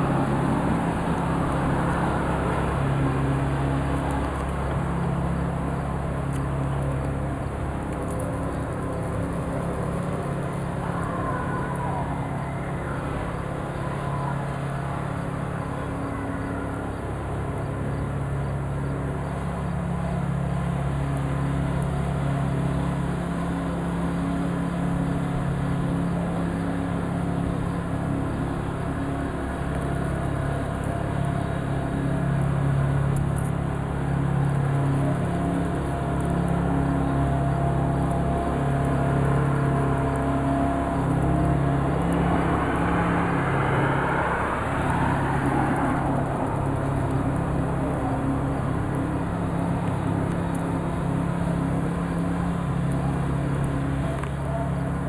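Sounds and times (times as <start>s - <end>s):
broad rush of noise: 0.0s - 55.0s
vehicle engine humming: 0.0s - 55.0s.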